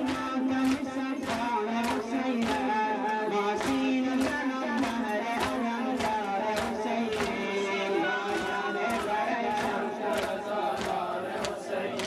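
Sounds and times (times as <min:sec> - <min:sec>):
steady beat: 0:00.0 - 0:11.7
person singing mourning chant: 0:00.0 - 0:12.0.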